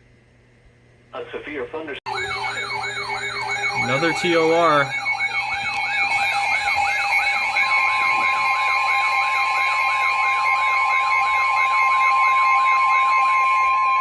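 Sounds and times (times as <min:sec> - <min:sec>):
siren-like sweeping alert tone: 0:02.1 - 0:14.0
steady alarm tones: 0:02.1 - 0:14.0.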